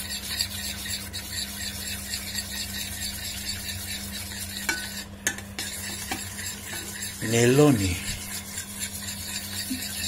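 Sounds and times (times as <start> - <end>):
metal spoon scraping saucepan: 0.0 - 10.0.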